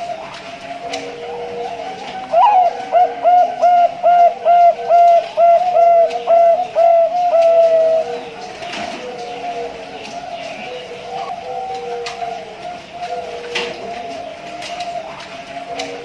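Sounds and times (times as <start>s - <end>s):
dove cooing: 0.0s - 16.0s
faint cooing of other doves: 0.0s - 16.0s.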